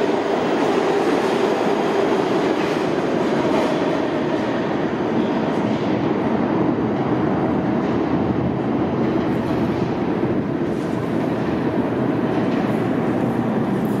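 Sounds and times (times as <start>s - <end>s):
subway train running in station: 0.0s - 14.0s.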